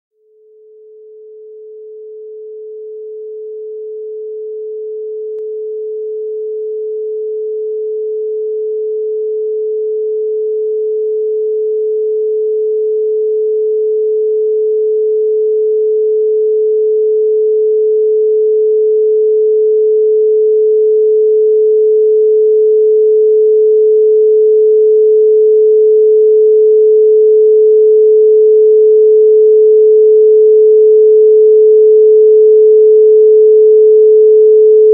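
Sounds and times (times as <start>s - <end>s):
pure sine tone: 0.1s - 34.9s.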